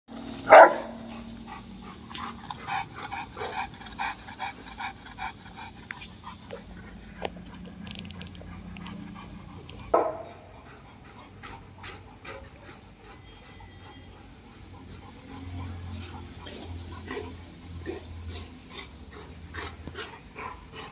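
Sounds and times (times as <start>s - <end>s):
dogs panting quickly: 0.5s - 20.9s.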